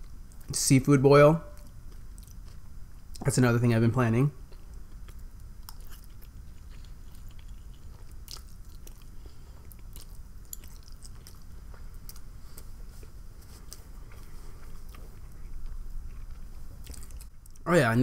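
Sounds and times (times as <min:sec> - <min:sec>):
low steady rumble: 0:00.0 - 0:18.0
person chewing food: 0:01.6 - 0:03.2, 0:04.5 - 0:17.6.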